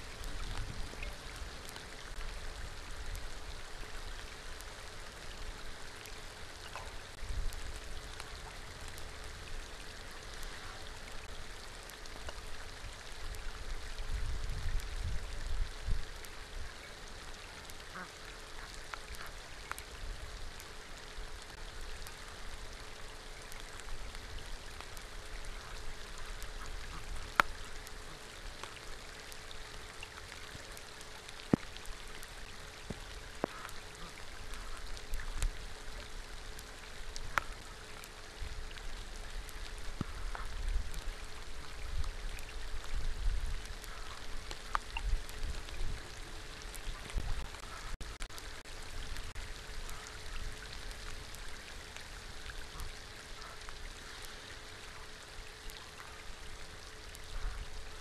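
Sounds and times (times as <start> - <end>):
faint steady hum: 0.0 - 58.0
rain falling on water: 0.0 - 58.0.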